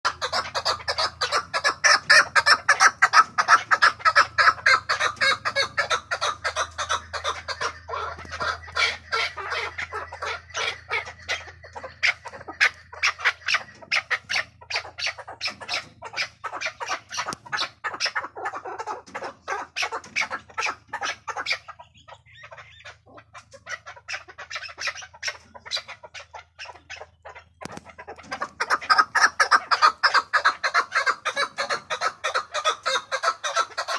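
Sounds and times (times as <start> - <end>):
partridge chuck calls: 0.0 - 33.9.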